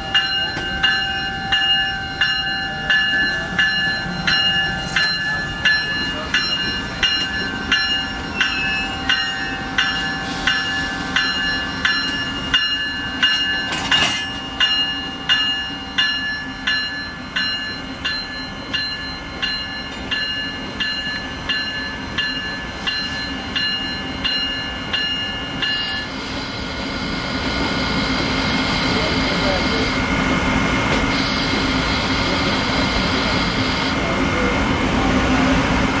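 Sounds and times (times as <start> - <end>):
locomotive bell ringing: 0.0 - 30.1, 31.2 - 34.5.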